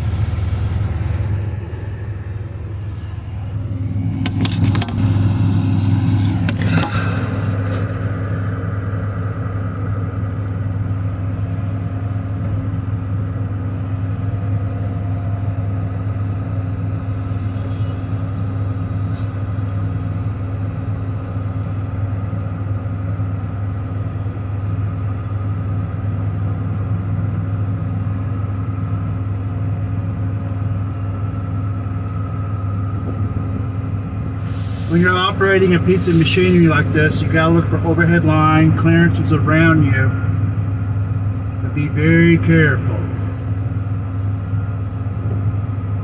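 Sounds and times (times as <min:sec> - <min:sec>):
excavator diesel engine idling: 0:00.0 - 0:46.0.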